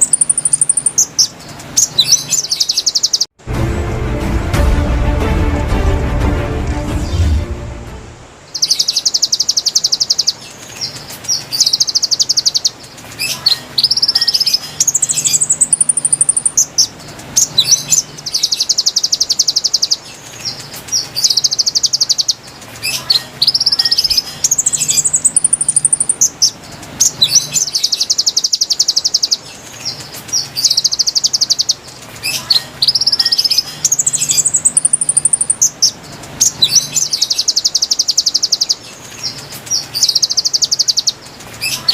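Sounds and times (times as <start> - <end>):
bird song with buzzy trills: 0.0 - 3.4, 8.4 - 41.9.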